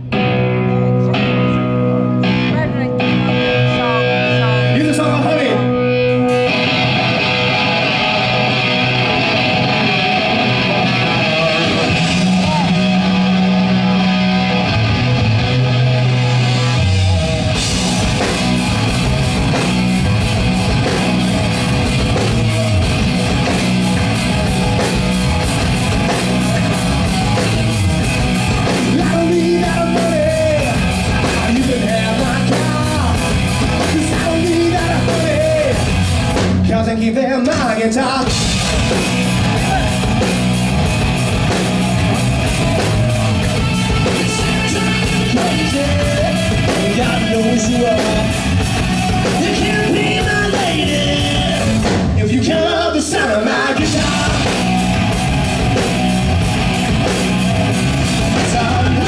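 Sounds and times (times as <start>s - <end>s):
bass guitar: 0.0s - 59.0s
electric guitars: 0.0s - 59.0s
drums and cymbals: 6.2s - 14.6s, 15.5s - 36.7s, 38.2s - 52.5s, 53.7s - 59.0s.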